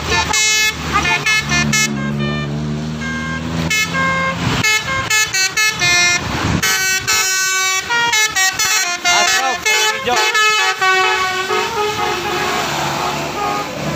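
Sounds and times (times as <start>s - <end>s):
bus musical air horn: 0.0s - 13.9s
passing traffic: 0.0s - 13.9s.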